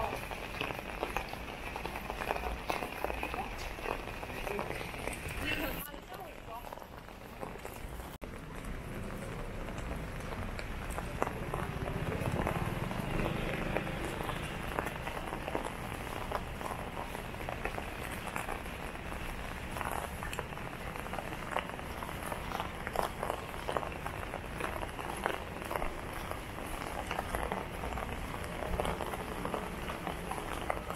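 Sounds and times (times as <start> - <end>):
drizzle on umbrella and pavement: 0.0 - 30.9.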